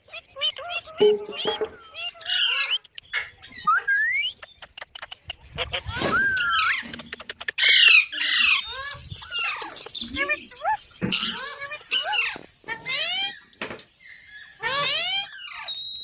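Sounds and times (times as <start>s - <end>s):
parrot whistling and squawking: 0.2s - 4.4s, 5.6s - 13.5s, 14.1s - 15.9s.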